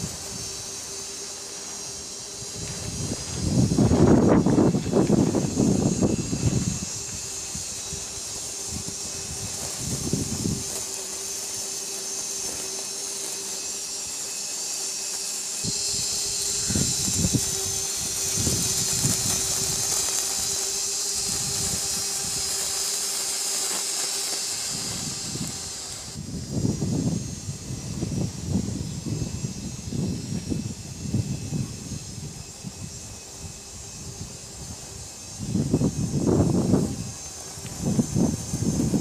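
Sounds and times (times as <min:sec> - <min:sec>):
machine humming and hissing: 0:00.0 - 0:39.0
wind gusts on microphone: 0:02.0 - 0:11.7, 0:15.6 - 0:23.0, 0:24.4 - 0:39.0.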